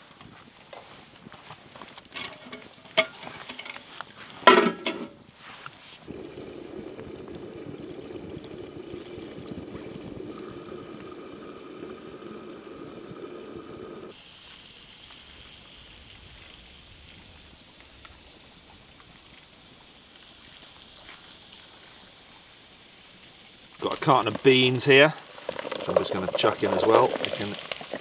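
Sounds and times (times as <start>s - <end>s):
sharp crackles: 0.0s - 4.5s, 5.1s - 21.9s, 23.7s - 28.0s
water boiling: 0.0s - 28.0s.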